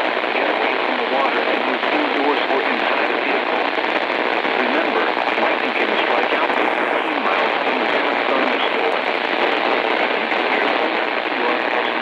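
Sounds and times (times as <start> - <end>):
faint radio voice: 0.0 - 3.7, 4.5 - 12.0
radio static hiss: 0.0 - 12.0.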